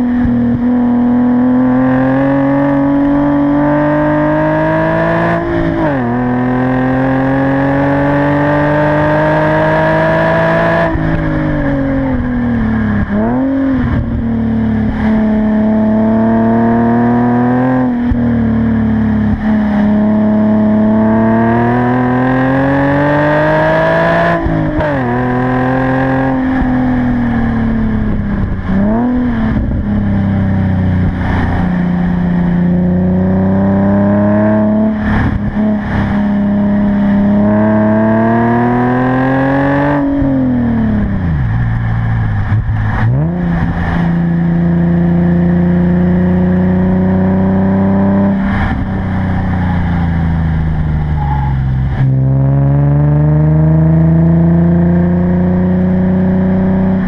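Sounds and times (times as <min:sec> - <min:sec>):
car engine pulling uphill: 0:00.0 - 0:57.0.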